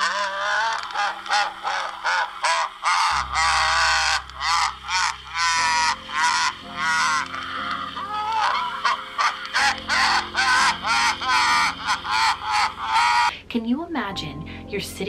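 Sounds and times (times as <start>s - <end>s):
toy doll laughing: 0.0s - 13.3s.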